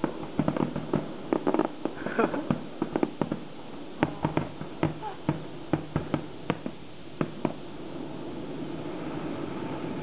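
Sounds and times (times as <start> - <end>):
fireworks popping: 0.0 - 8.1
steady background hiss: 0.0 - 10.0.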